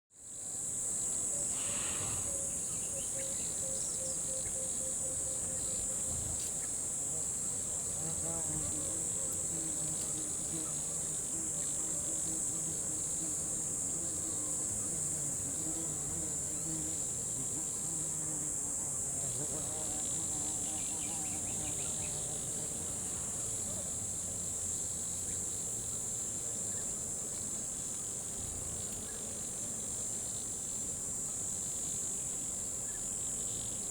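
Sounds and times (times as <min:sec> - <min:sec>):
high-pitched insect chorus: 0:00.2 - 0:33.9.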